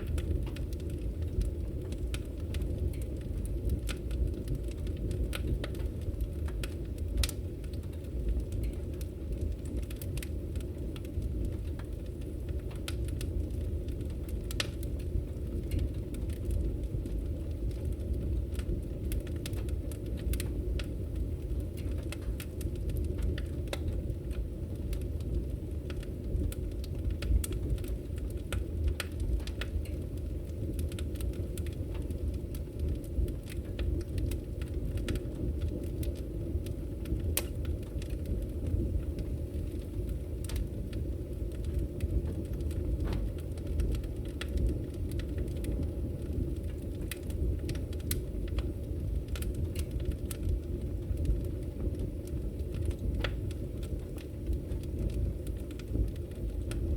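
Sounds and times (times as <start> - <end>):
fire crackling and popping: 0.0 - 56.9
low rumble of flames: 0.0 - 56.9.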